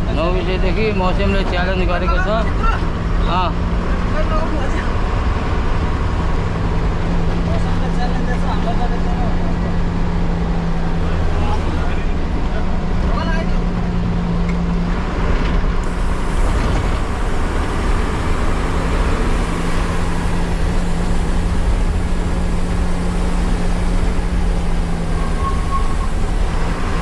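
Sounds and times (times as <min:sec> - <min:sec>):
bus engine hum: 0:00.0 - 0:27.0
road rumble: 0:00.0 - 0:27.0.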